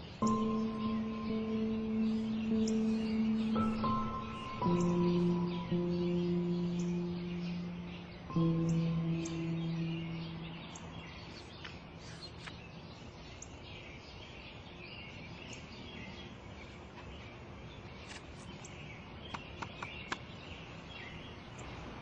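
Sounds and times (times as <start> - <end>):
steady background hiss: 0.0 - 19.2
small birds chirping: 0.0 - 22.0.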